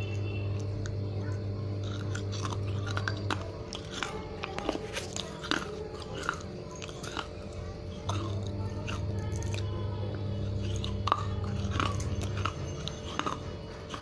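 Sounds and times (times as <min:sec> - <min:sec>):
crunching and chewing clay: 0:00.0 - 0:14.0
low steady hum: 0:00.0 - 0:14.0.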